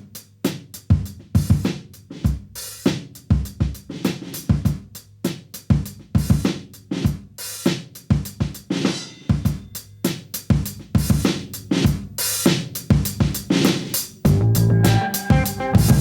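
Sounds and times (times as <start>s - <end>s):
drum kit groove: 0.0s - 16.0s.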